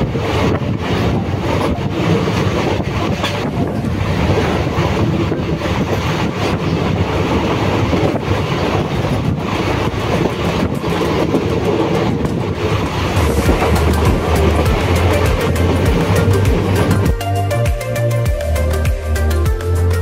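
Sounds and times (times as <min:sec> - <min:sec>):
train rumble and wheel clatter: 0:00.0 - 0:20.0.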